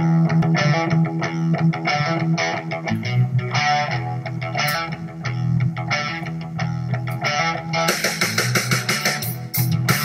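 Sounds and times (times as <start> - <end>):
steady bass line: 0.0 - 10.0
strummed guitar: 0.0 - 10.0.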